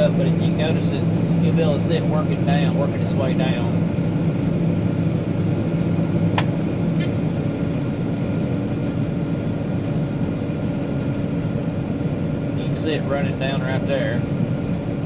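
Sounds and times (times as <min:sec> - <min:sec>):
combine harvester humming: 0:00.0 - 0:15.0.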